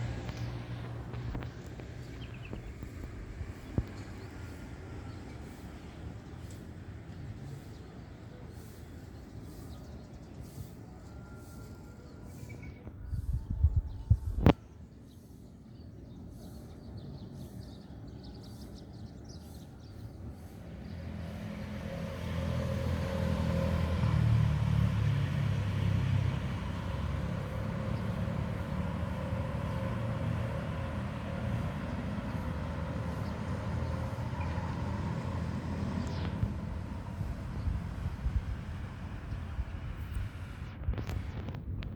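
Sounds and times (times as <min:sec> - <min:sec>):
vehicle engine humming: 0:00.0 - 0:13.4, 0:19.8 - 0:41.9.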